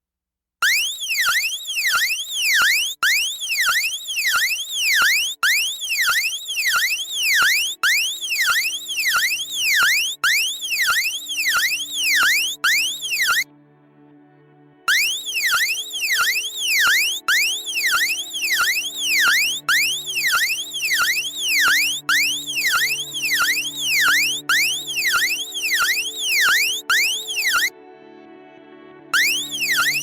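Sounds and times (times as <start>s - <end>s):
electronic alarm tone sweeping: 0.6s - 13.5s, 14.9s - 27.7s, 29.2s - 30.0s.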